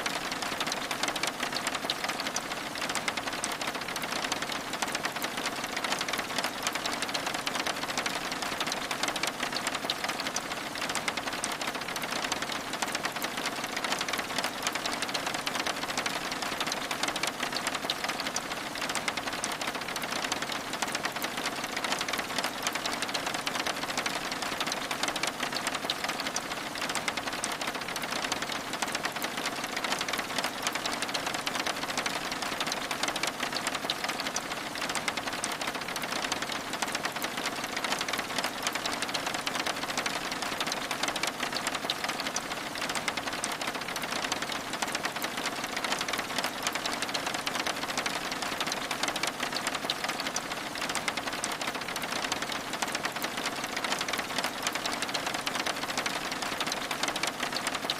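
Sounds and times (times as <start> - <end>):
rain on window glass: 0.0 - 57.9.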